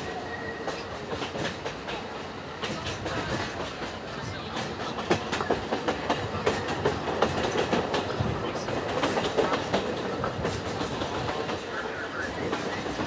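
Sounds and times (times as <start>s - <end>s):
train clacks and rattles: 0.0s - 13.0s
train wheels rumbling on rail: 0.0s - 13.0s.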